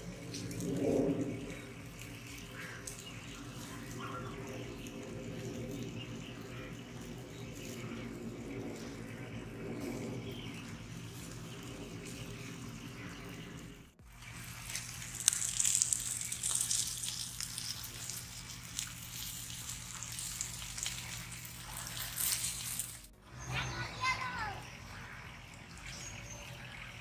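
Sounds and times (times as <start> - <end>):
fire crackles: 0.0 - 24.8
fat sizzling on hot coals: 0.0 - 26.9.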